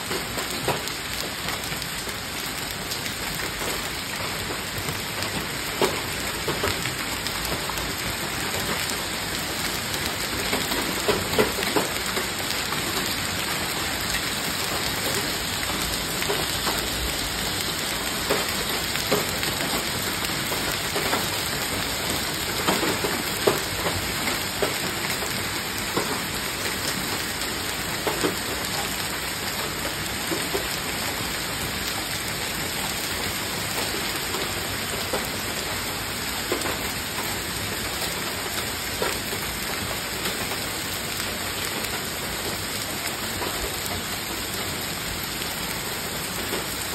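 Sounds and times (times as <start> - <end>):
hailstones tapping surfaces: 0.0 - 46.9
heavy rain hiss: 0.1 - 46.9.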